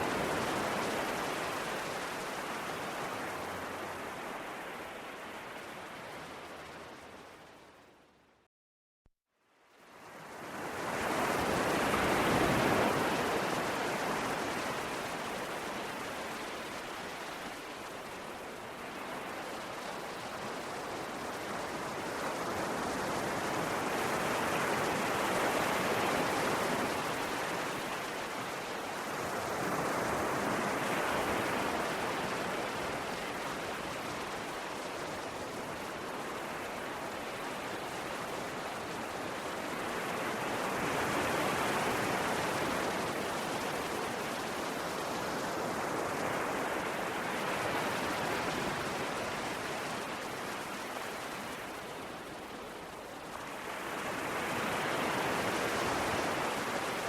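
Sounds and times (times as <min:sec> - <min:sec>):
ocean waves washing ashore: 0:00.0 - 0:08.1, 0:09.8 - 0:57.0.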